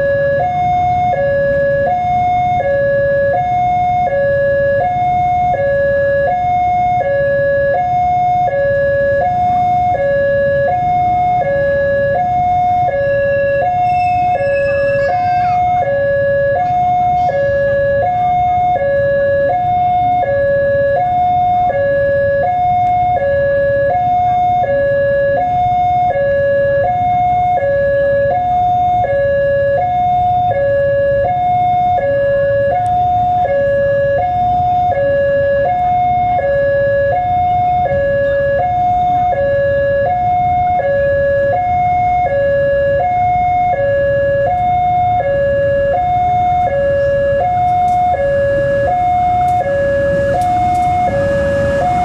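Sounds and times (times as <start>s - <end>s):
level crossing two-tone alarm: 0.0s - 52.0s.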